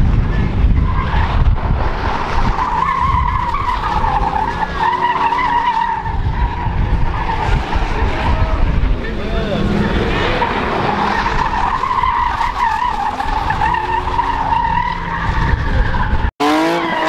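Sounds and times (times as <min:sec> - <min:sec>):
tires squealing: 0:00.0 - 0:17.0.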